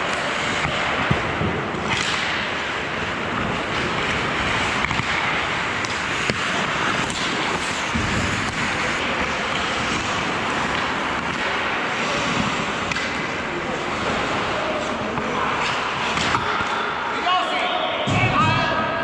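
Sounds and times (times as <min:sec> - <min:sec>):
hockey sticks clicking: 0:00.0 - 0:17.2
skate blades scraping ice: 0:00.0 - 0:17.2.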